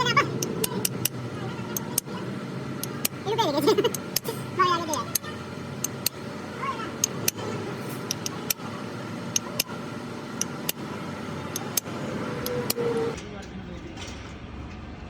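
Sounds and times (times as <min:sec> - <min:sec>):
sharp metallic clicks and taps: 0:00.0 - 0:13.2
steady hum: 0:00.0 - 0:13.3.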